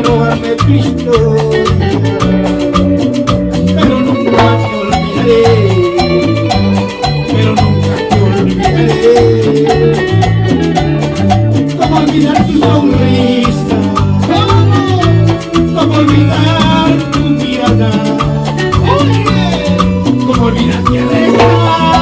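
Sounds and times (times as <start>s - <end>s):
bass line: 0.0s - 22.0s
latin dance band playing: 0.0s - 22.0s
melodic lead: 0.0s - 22.0s
percussion beat: 0.0s - 22.0s.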